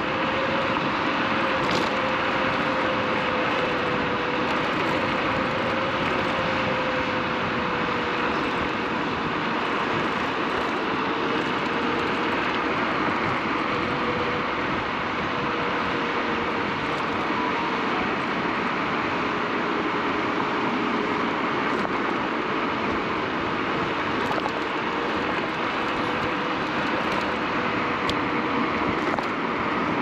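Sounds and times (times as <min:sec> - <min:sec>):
electric scooter motor whine: 0:00.0 - 0:30.0
wind and road noise: 0:00.0 - 0:30.0.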